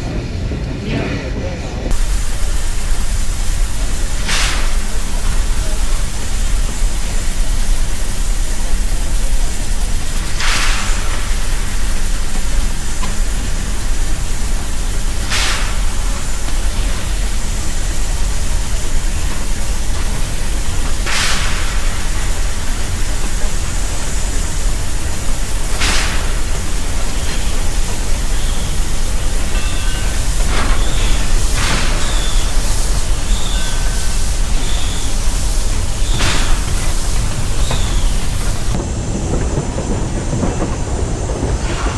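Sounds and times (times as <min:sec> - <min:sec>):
brief rush of hiss: 0:01.9 - 0:38.8, 0:41.4 - 0:41.9
loud rushing noise: 0:01.9 - 0:41.9.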